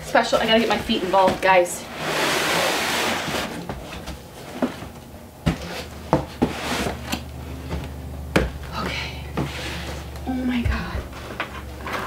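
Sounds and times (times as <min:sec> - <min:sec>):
cardboard scraping and knocking: 0:00.5 - 0:12.0.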